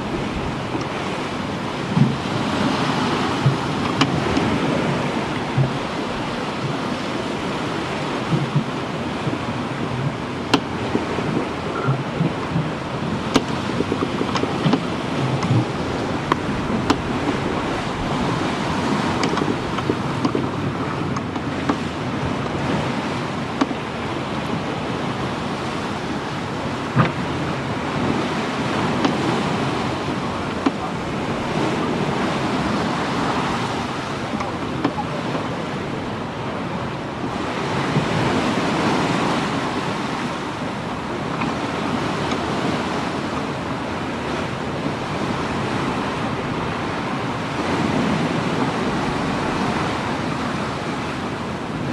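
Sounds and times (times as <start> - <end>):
water washing against a hull: 0.0 - 51.9
wind on microphone: 0.0 - 51.9.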